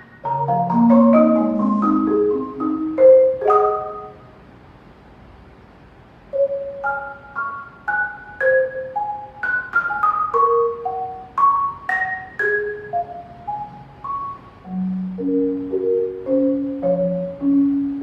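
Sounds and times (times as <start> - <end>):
marimba notes: 0.0 - 4.4, 6.4 - 18.0.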